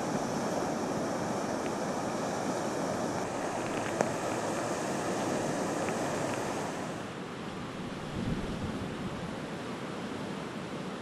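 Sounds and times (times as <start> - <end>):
storm surf: 0.0 - 9.4
strong wind: 0.0 - 10.0.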